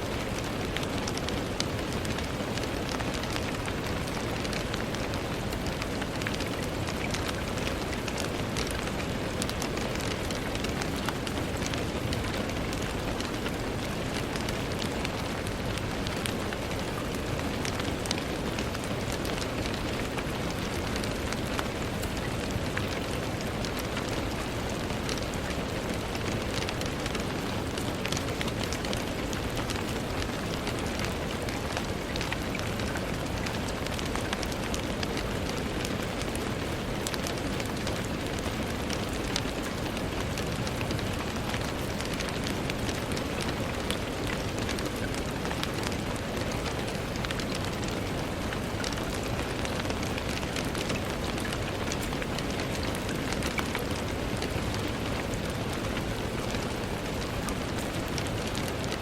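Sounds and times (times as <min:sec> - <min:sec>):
rain on a window pane: 0:00.0 - 0:59.0.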